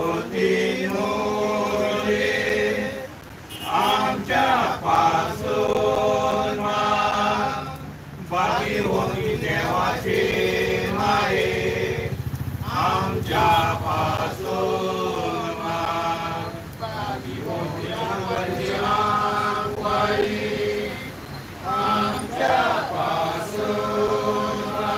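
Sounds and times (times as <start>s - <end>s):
congregation chanting a prayer: 0.0s - 24.9s.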